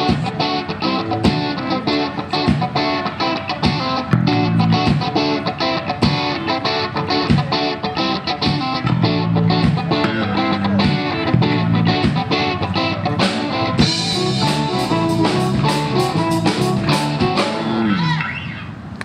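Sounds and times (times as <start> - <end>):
live rock band playing: 0.0 - 18.4.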